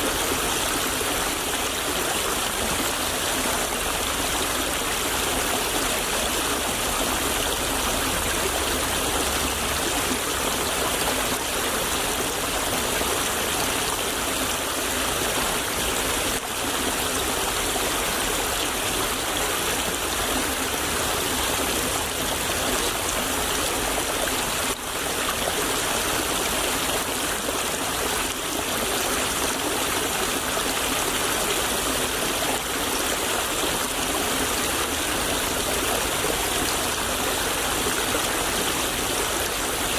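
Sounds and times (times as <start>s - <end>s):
stream flowing and babbling: 0.0s - 39.9s.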